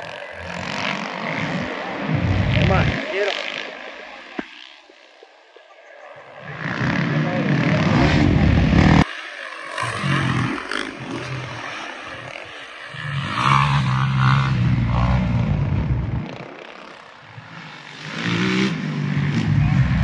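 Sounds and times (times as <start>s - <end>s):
motocross bike engines running: 0.0s - 20.0s.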